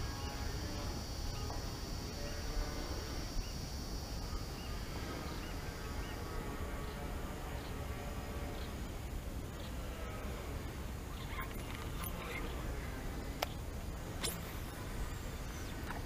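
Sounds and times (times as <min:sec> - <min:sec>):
steady high buzz: 0:00.0 - 0:16.0.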